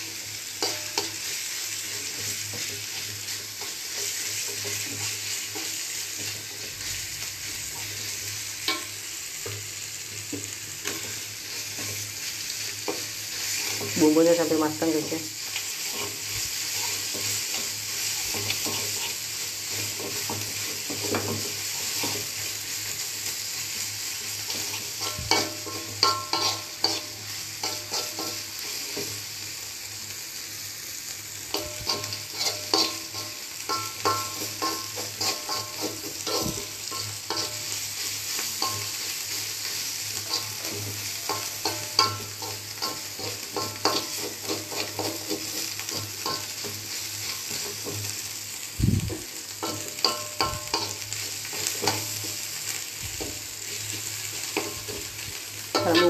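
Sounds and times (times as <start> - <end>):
metal spatula scraping wok: 0.0 - 29.4, 31.3 - 56.0
paste sizzling in hot oil: 0.0 - 56.0.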